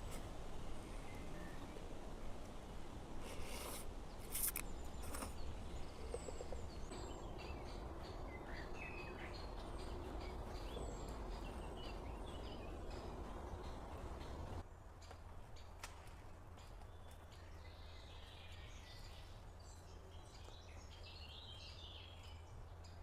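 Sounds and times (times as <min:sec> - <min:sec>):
small birds chirping: 0:03.2 - 0:15.8, 0:16.5 - 0:23.0.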